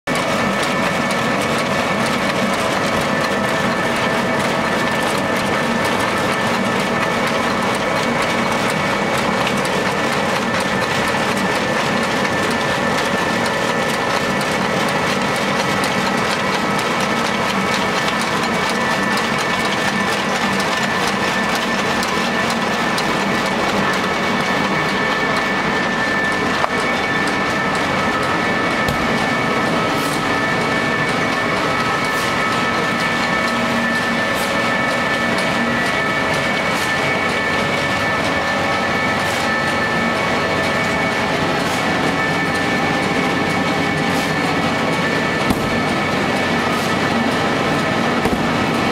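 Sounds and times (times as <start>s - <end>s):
machine whine: 0.1s - 48.9s.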